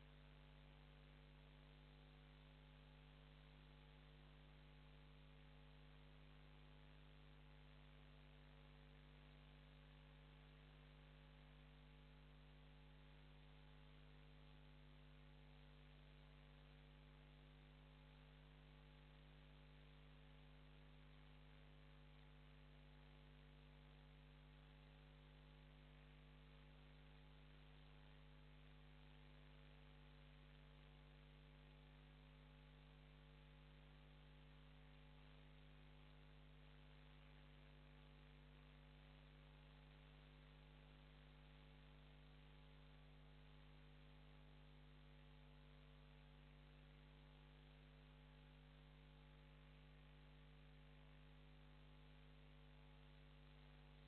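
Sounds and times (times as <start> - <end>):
faint electrical mains hum: 0.0 - 54.0.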